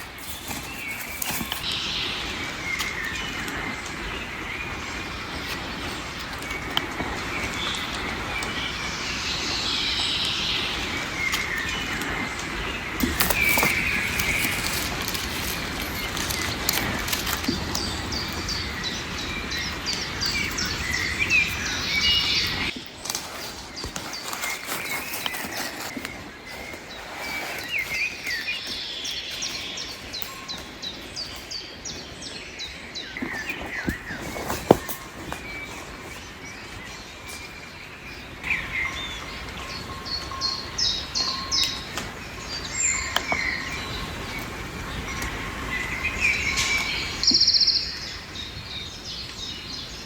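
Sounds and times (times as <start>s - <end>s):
small birds chirping: 0.0s - 50.0s
steady background hiss: 0.0s - 50.0s.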